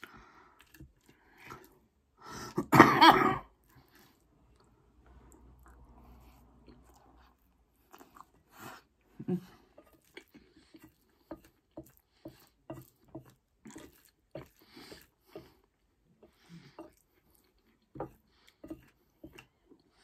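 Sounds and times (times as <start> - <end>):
mouth chewing with wet smacks: 3.6 - 20.0.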